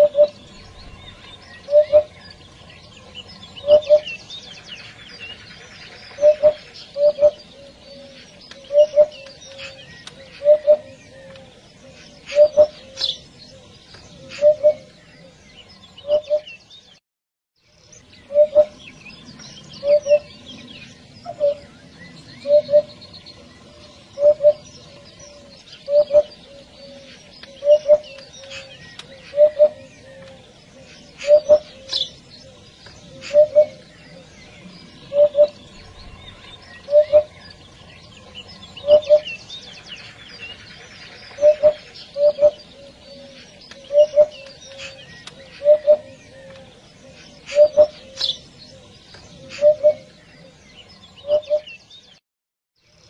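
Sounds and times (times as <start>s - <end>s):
hoopoe calling: 0.0s - 0.5s, 1.6s - 2.3s, 3.0s - 4.3s, 5.0s - 15.4s, 18.2s - 18.8s, 19.8s - 20.4s, 22.4s - 50.6s, 51.2s - 51.8s
small birds chirping: 0.0s - 17.0s, 17.6s - 52.2s.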